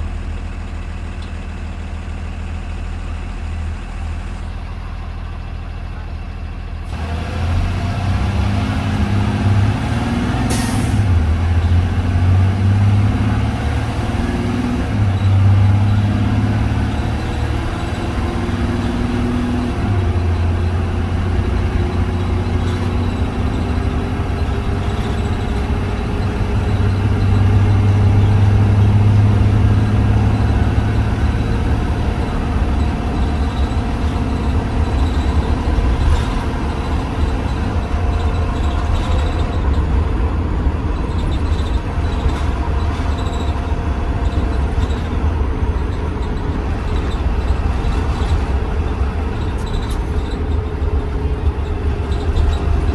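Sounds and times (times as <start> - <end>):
bus engine drone: 0.0 - 52.9
road noise: 0.0 - 52.9.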